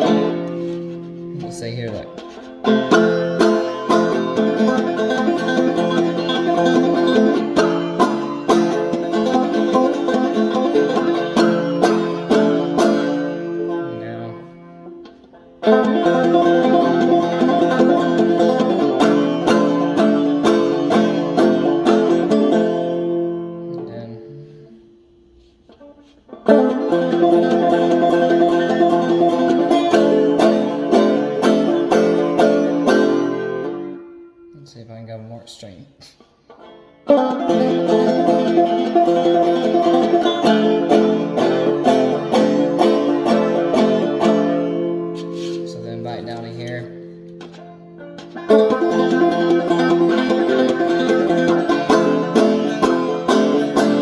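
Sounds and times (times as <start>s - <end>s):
sharp percussive banjo strokes: 0.0s - 35.0s, 36.0s - 54.0s
banjo notes: 0.0s - 54.0s.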